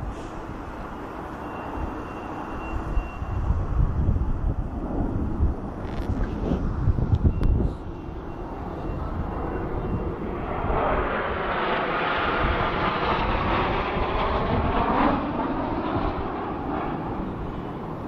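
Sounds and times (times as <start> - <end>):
jet engines passing overhead: 0.0 - 18.0.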